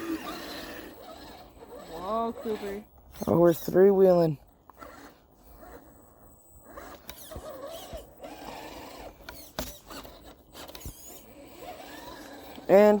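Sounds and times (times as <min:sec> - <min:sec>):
electric motor whining: 0:00.0 - 0:04.1, 0:04.7 - 0:13.0.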